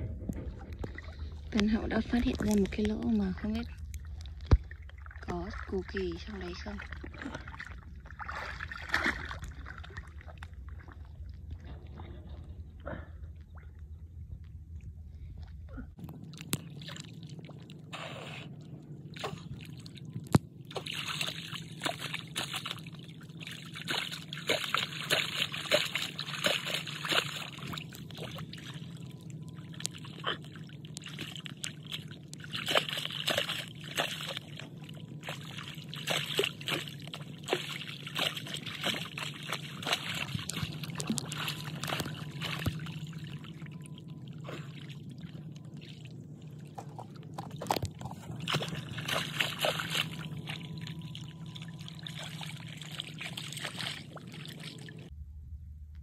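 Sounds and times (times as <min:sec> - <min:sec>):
seawater sloshing and splashing: 0:00.0 - 0:12.6, 0:15.3 - 0:55.1.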